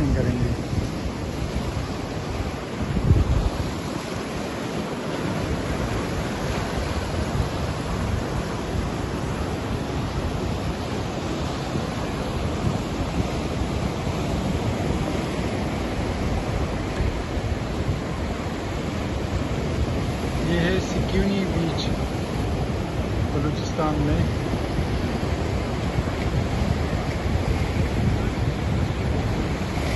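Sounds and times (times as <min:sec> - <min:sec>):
waves breaking on rocks: 0:00.0 - 0:29.9
wind buffeting microphone: 0:00.0 - 0:29.9.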